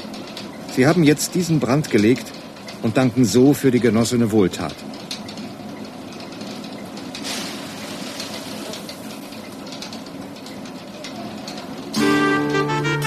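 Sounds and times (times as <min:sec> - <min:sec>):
faint mill works clatter: 0:00.0 - 0:12.0.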